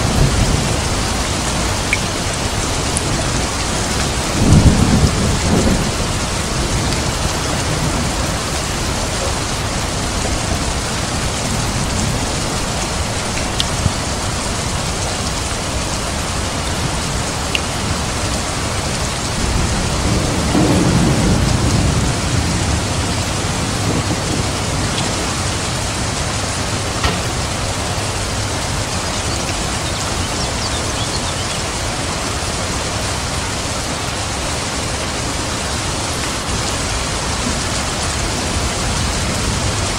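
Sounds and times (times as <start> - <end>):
thunder rumble: 0.0 - 33.3
heavy rain falling: 0.0 - 39.9.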